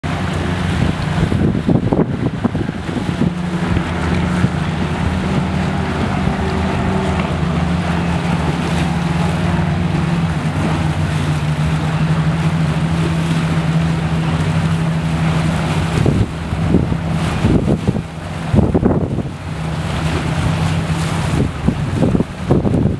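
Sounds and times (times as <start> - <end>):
steady engine drone: 0.0 - 22.9
wind buffeting microphone: 0.0 - 22.9.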